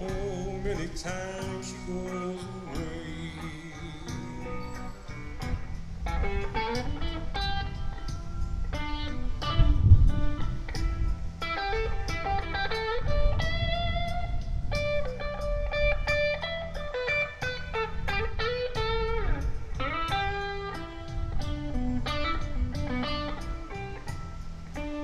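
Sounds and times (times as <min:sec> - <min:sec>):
blues electric guitar lead: 0:00.0 - 0:25.0
low bass notes: 0:00.0 - 0:25.0
steady beat: 0:00.0 - 0:25.0.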